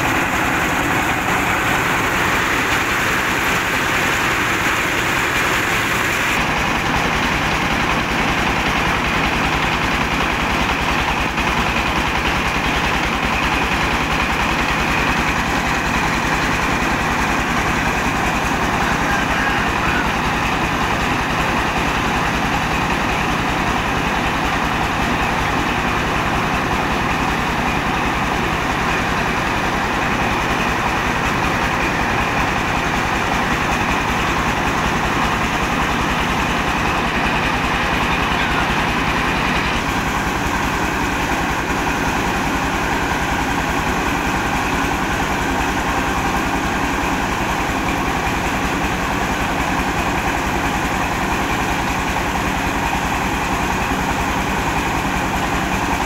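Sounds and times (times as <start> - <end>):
rice mill machinery running: 0.0 - 56.0.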